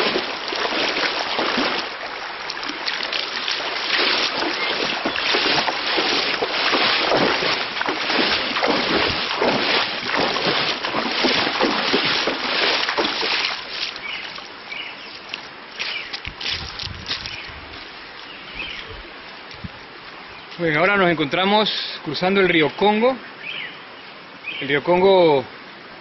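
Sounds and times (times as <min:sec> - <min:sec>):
wading through river water: 0:00.0 - 0:25.0.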